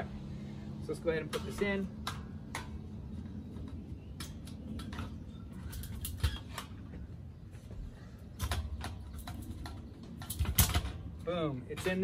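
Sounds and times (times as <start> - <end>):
metal grill legs clicking and rattling: 1.0 - 7.0, 8.2 - 12.0.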